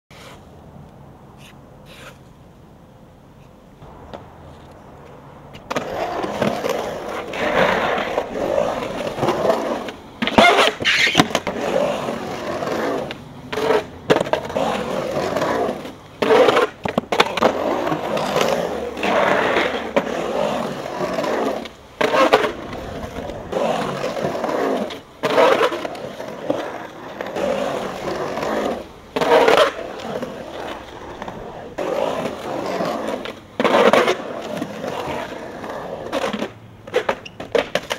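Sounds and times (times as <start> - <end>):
skateboard wheels rolling on concrete: 0.1 - 37.9
skateboard clacks: 3.8 - 37.9.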